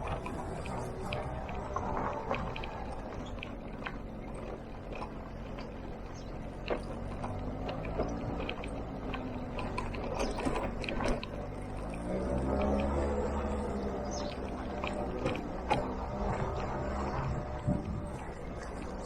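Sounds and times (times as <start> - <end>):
motor scooter engine running: 0.0 - 19.0
sharp rattles and knocks: 0.0 - 19.0.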